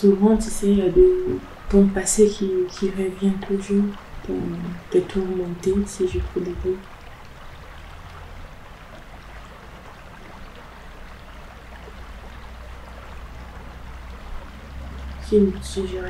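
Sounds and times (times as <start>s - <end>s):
constant low rumble: 0.0s - 16.0s
flowing water hiss: 0.0s - 16.0s.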